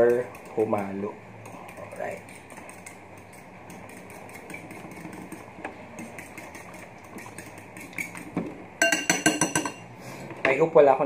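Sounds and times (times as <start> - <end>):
spoon stirring egg in glass bowl: 0.0 - 9.8
steady low hum: 0.0 - 10.5.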